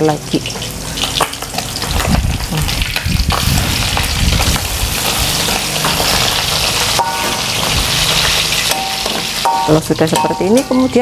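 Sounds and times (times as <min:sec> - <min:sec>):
fish deep-frying in hot oil: 0:00.0 - 0:11.0.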